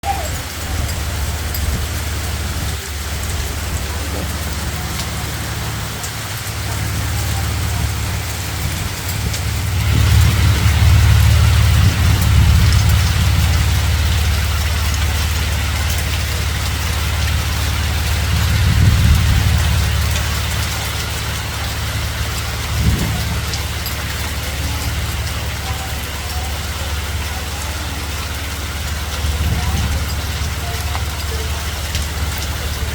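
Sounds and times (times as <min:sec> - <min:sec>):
hail pattering on surfaces: 0:00.0 - 0:32.9
low rumble: 0:00.0 - 0:32.9.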